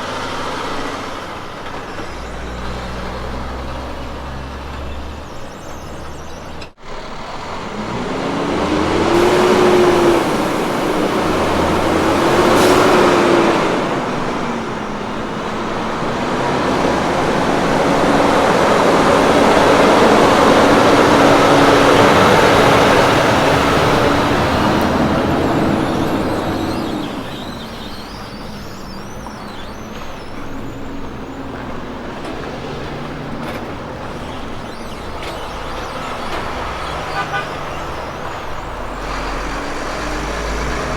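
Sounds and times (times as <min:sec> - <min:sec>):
truck diesel engine accelerating: 0:00.0 - 0:40.9
tyre and road noise: 0:00.0 - 0:40.9.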